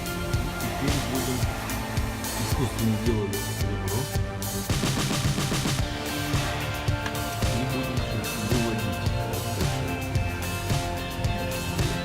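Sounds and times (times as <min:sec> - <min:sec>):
drums: 0:00.0 - 0:12.0
guitar: 0:00.0 - 0:12.0.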